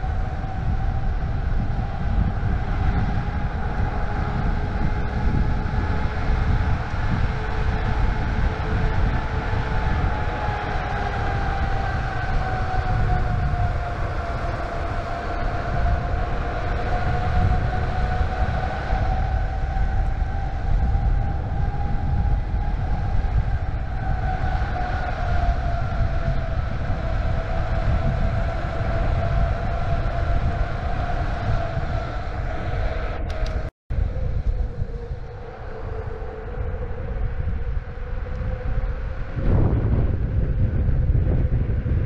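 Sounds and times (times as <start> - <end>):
electric motor whine: 0.0 - 42.0
wind buffeting microphone: 0.0 - 42.0.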